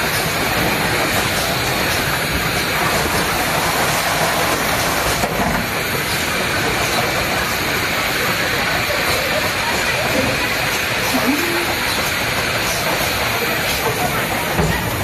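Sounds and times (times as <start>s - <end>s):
industrial machinery running: 0.0s - 15.0s.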